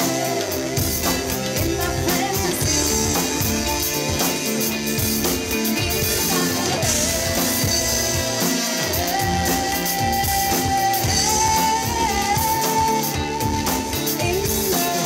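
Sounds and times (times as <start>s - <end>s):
electronic pop band playing: 0.0s - 15.0s
woman singing: 0.0s - 15.0s.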